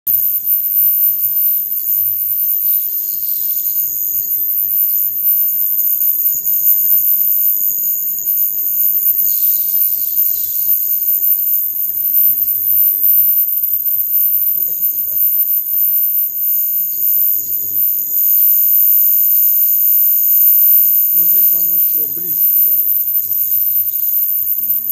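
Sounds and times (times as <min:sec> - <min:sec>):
high-pitched transducer whine: 0:00.1 - 0:24.9
low electrical hum: 0:00.1 - 0:24.9
lower whine: 0:00.1 - 0:24.9.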